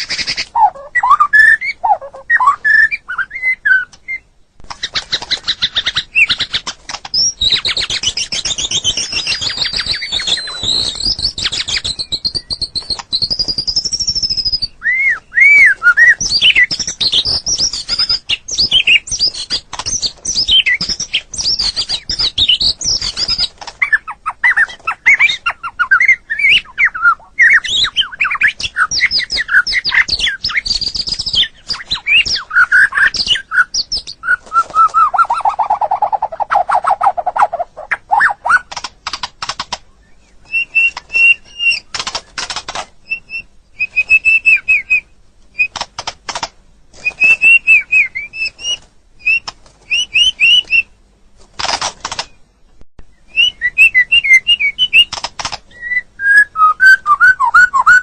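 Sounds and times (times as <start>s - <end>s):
bird singing whistled song: 0.0s - 38.8s, 40.0s - 42.0s, 43.0s - 45.7s, 47.0s - 51.0s, 53.0s - 58.0s.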